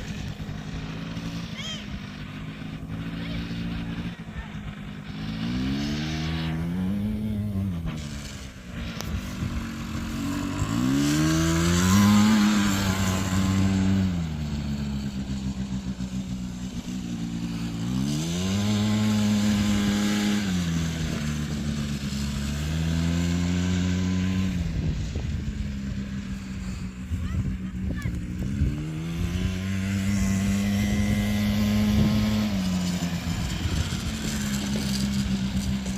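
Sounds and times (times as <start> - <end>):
small petrol engine revving: 0.0 - 35.9.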